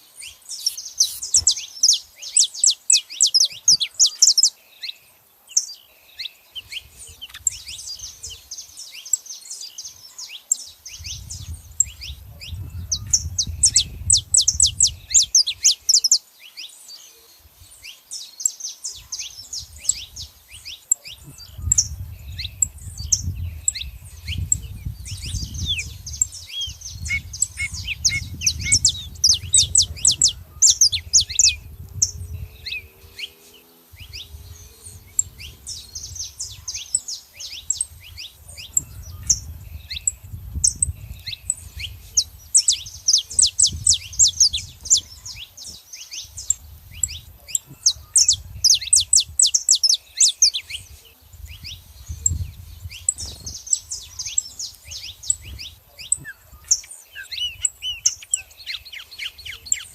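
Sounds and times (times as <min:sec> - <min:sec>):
finches chirping: 0:00.0 - 0:16.7, 0:17.3 - 0:59.9.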